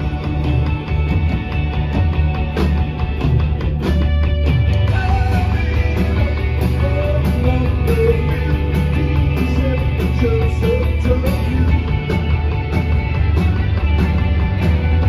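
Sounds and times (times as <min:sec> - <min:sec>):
guitar line bending in pitch: 0:00.0 - 0:15.0
rock band playing live: 0:00.0 - 0:15.0.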